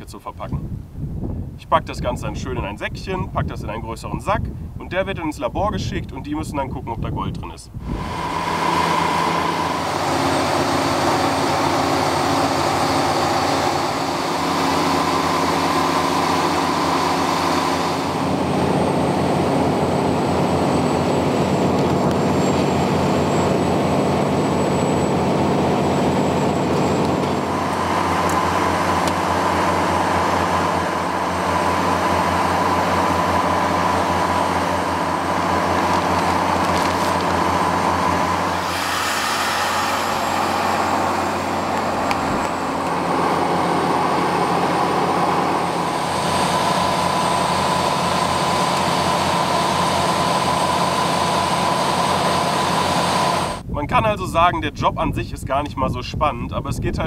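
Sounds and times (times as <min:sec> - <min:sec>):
drill rig diesel engine hum: 0:00.0 - 0:55.0
high machinery whine: 0:07.7 - 0:53.8.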